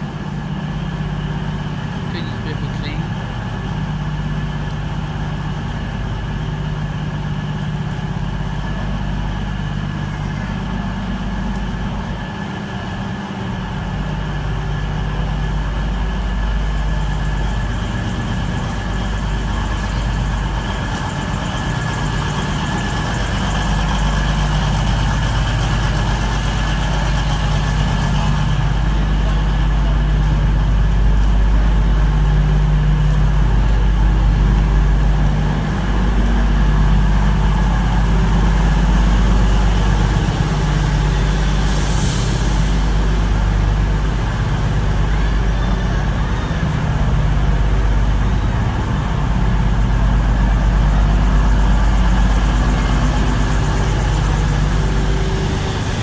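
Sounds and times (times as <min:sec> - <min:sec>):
train diesel engines idling: 0:00.0 - 0:56.0.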